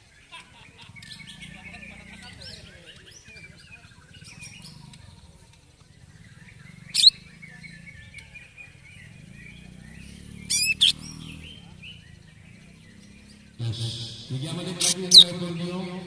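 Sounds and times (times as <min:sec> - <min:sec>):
loud sharp bird calls: 0:00.0 - 0:16.0
bird twittering: 0:00.2 - 0:05.2, 0:05.8 - 0:16.0.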